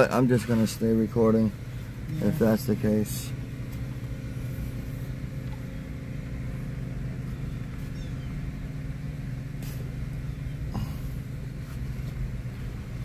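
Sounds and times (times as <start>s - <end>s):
vehicle engine and road hum: 0.0s - 13.0s.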